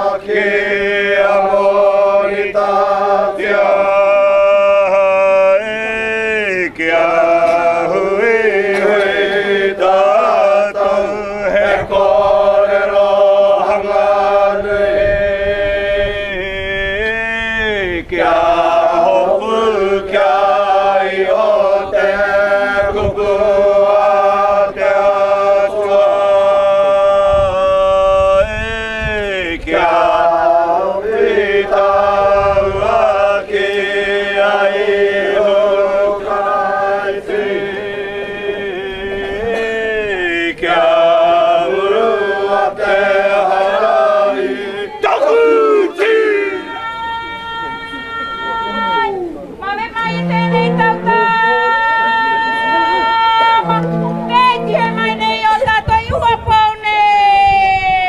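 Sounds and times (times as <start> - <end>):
group chanting in unison: 0.0 - 47.0.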